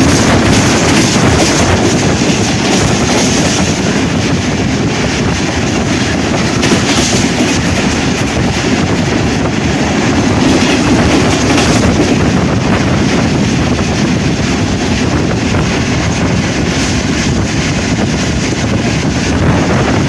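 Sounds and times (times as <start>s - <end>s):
train passing at high speed: 0.0s - 20.0s
wind buffeting microphone: 0.0s - 20.0s.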